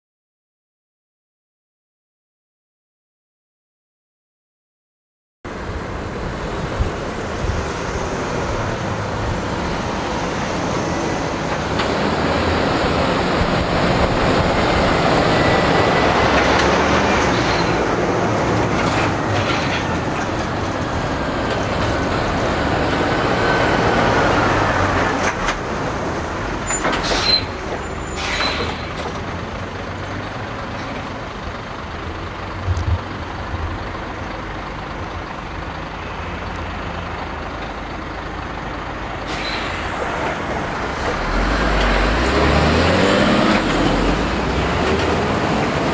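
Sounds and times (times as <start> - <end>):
heavy trucks driving past: 5.5 - 45.9.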